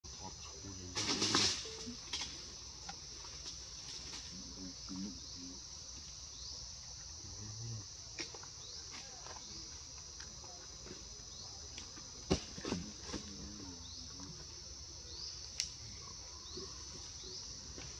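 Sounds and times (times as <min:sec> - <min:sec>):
insect chorus drone: 0:00.1 - 0:17.9.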